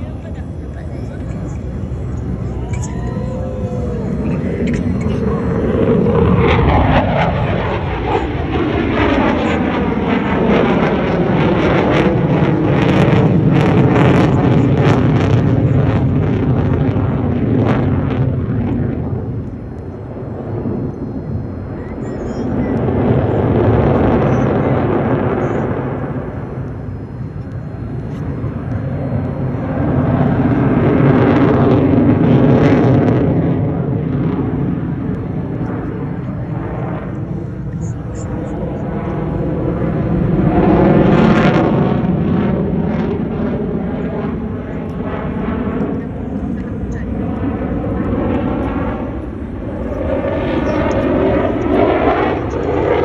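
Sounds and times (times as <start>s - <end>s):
fighter jet flying past: 0.0s - 53.0s.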